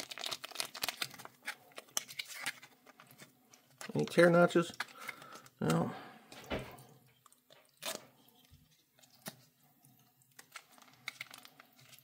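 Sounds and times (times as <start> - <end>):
plastic pouch crinkling: 0.0 - 6.5, 7.1 - 12.0
plastic rustling: 0.0 - 12.0.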